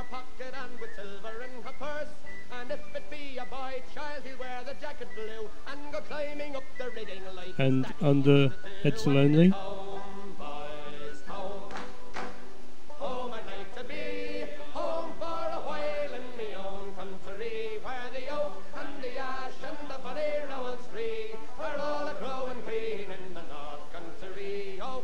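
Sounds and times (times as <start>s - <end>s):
slow sung melody: 0.0s - 25.0s.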